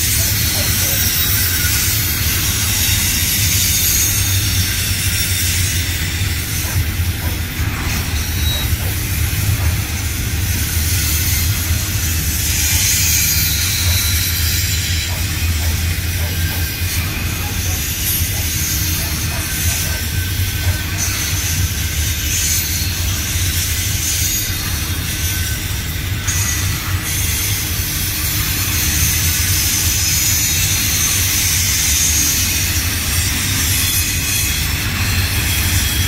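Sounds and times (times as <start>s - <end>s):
hiss: 0.0s - 36.0s
train wheels rumbling on rails: 0.0s - 36.0s.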